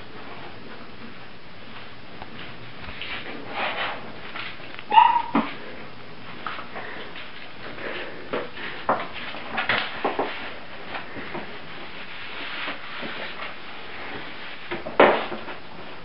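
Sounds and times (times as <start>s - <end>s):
puppies scuffling in plastic bed: 0.2s - 5.6s, 6.3s - 16.0s.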